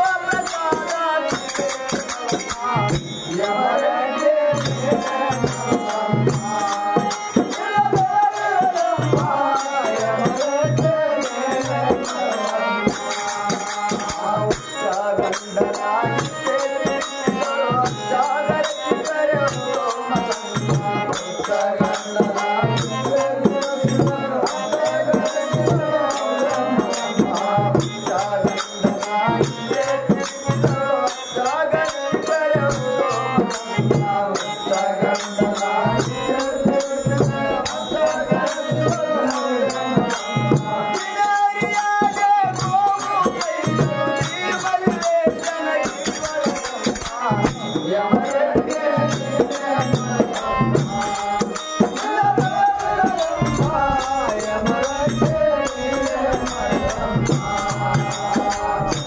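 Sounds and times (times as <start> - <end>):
jingling percussion: 0.0 - 59.0
person singing: 0.0 - 59.0.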